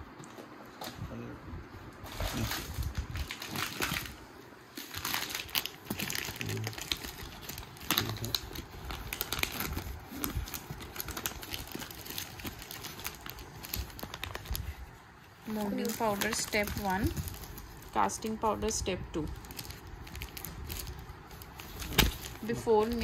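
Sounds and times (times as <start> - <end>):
plastic packaging crinkling: 2.0 - 23.0.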